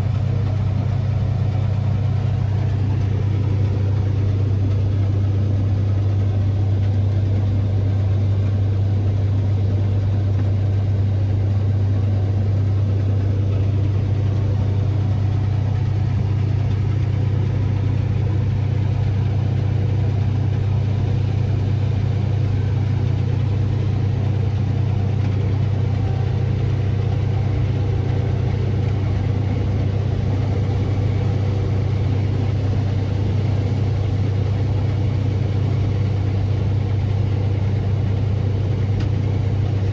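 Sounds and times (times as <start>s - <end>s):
heavy machine engine droning: 0.0s - 39.9s.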